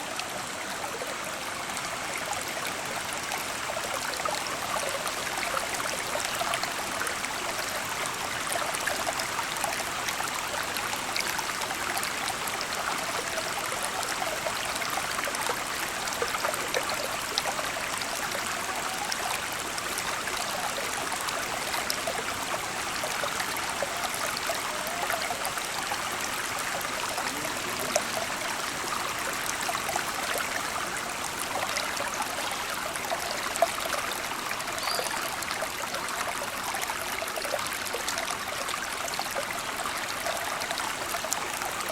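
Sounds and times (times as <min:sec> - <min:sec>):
small splashes and trickles: 0:00.0 - 0:41.9
stream water flowing: 0:00.0 - 0:41.9.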